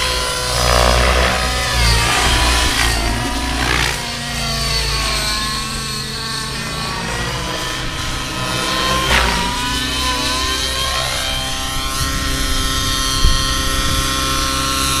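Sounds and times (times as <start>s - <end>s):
model helicopter engine whine: 0.0s - 15.0s.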